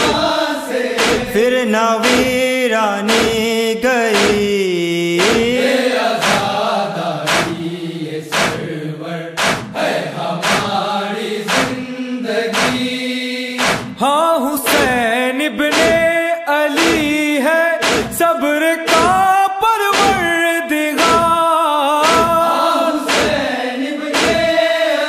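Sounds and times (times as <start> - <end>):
person chanting a lament: 0.0 - 25.0
rhythmic chest-beating slaps: 0.0 - 25.0.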